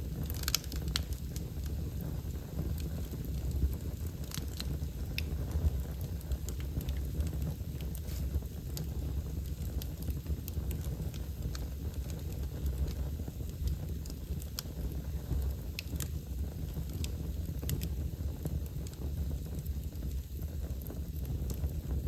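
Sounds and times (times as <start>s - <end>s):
low rumble of fire: 0.0s - 22.0s
wood fire crackling and popping: 0.0s - 22.0s.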